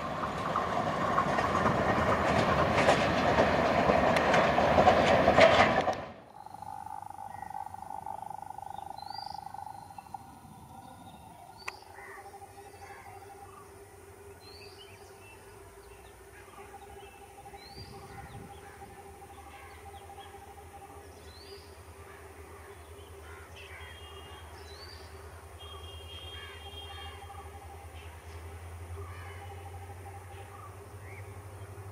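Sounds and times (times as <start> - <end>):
birds chirping: 6.3 - 31.9
faint low steady hum: 6.4 - 31.9.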